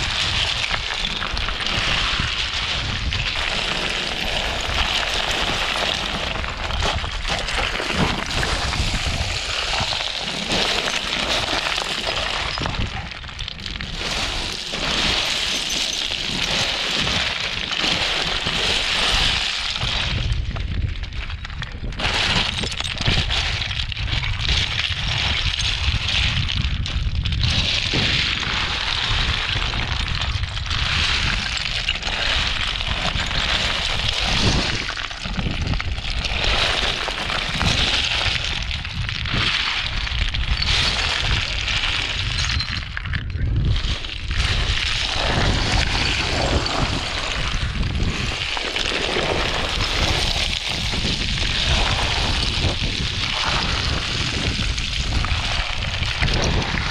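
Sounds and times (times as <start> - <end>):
footsteps crunching on scree: 0.0 - 56.9.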